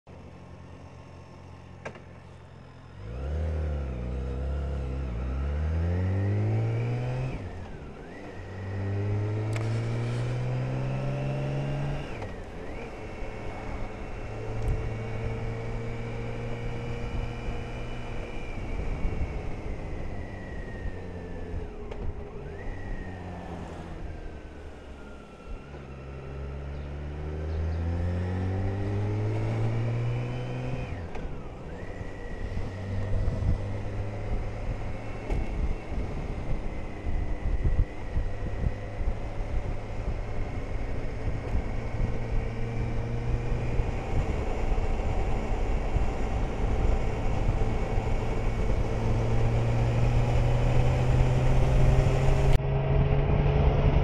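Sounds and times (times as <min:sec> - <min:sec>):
motorcycle engine accelerating: 0:00.1 - 0:54.0.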